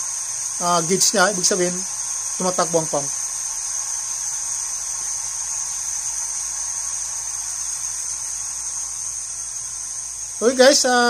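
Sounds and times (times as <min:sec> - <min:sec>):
electric pump motor whine: 0:00.0 - 0:11.0
faint low hum: 0:00.0 - 0:11.0.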